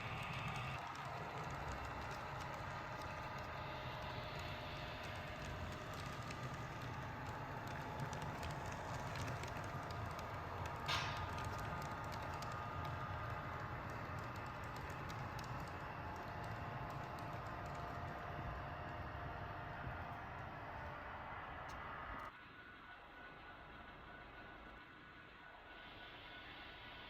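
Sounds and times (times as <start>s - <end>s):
wheels clicking on rails: 0.0s - 22.3s
model train humming: 0.0s - 27.0s.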